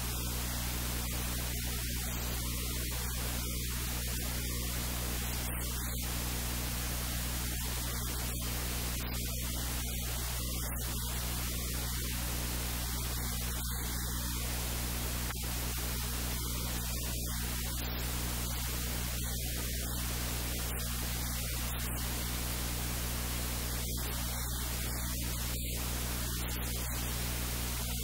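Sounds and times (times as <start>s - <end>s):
low electrical hum: 0.0s - 28.0s
static hiss: 0.0s - 28.0s.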